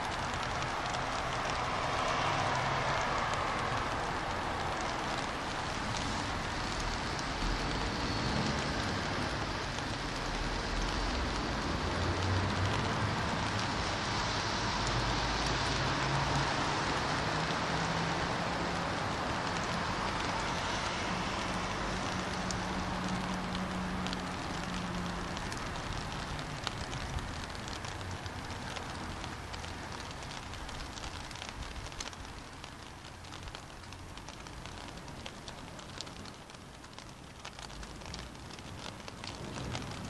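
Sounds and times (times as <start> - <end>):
cars driving on wet road: 0.0 - 40.0
rain on wet street: 0.0 - 40.0.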